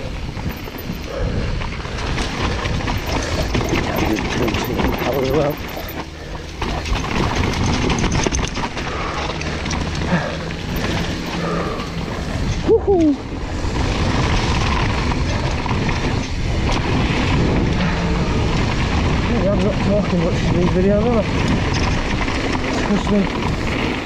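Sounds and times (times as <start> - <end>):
bike rattling and knocking: 0.0 - 24.0
bike tyres rushing on dirt: 0.0 - 24.0.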